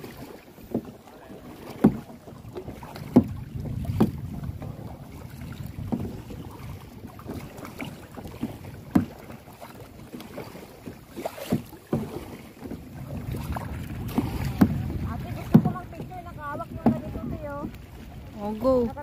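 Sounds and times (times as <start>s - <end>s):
paddle splashing in water: 0.0s - 19.0s
water lapping: 0.0s - 19.0s
wind rumbling on microphone: 1.9s - 19.0s.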